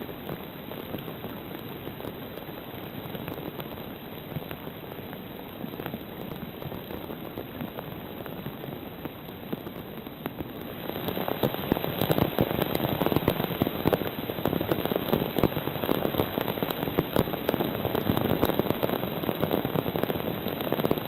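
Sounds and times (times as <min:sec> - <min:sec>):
rain falling: 0:00.0 - 0:21.0
raindrops hitting hard surface: 0:00.0 - 0:21.0.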